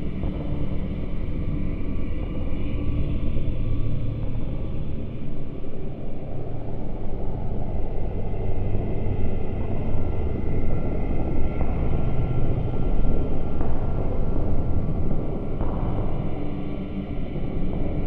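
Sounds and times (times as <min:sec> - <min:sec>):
deep rumbling drone: 0:00.0 - 0:18.0.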